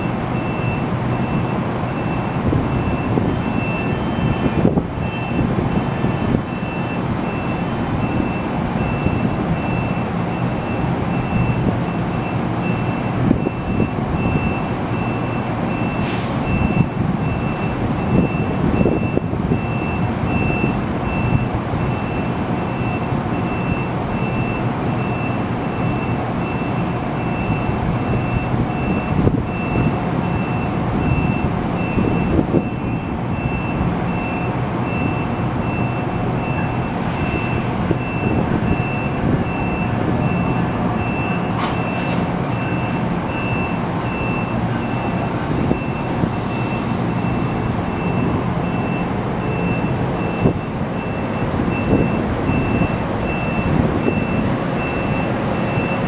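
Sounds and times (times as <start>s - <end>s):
train hum and rumble: 0.0s - 56.0s.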